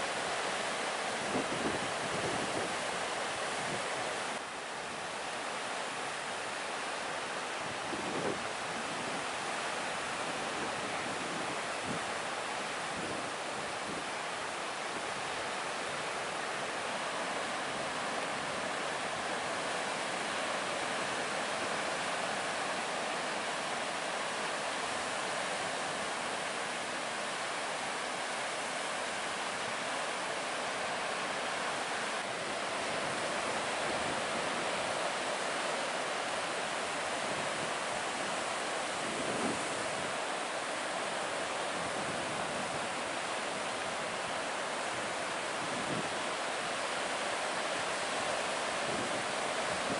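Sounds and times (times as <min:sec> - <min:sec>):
ocean surf breaking: 0:00.0 - 0:49.9.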